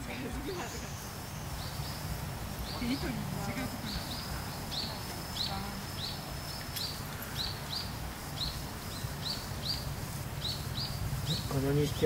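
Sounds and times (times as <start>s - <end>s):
small bird chirping: 0.1s - 12.0s.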